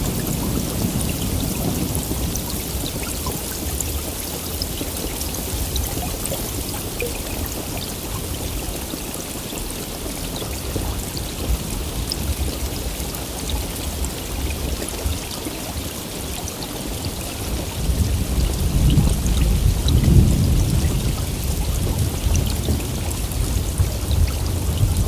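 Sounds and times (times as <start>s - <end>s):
low rumble of thunder: 0.0s - 15.3s, 17.0s - 25.0s
heavy rain falling: 0.0s - 25.0s
raindrop ticks: 0.0s - 25.0s.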